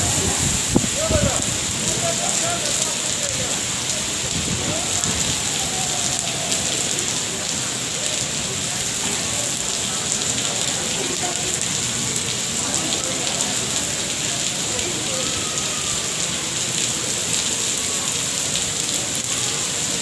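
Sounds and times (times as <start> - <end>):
rain falling: 0.0 - 20.0
raindrops ticking on surfaces: 0.0 - 20.0.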